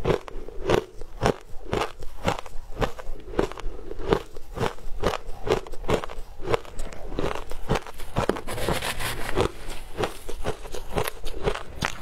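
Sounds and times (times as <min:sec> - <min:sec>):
shaved ice being chewed: 0:00.0 - 0:12.0.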